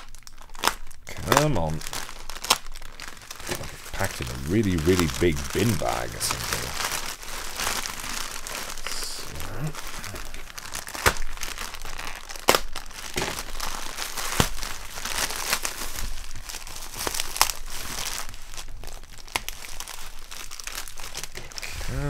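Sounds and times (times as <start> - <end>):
plastic packaging crinkling and tearing: 0.0 - 21.8.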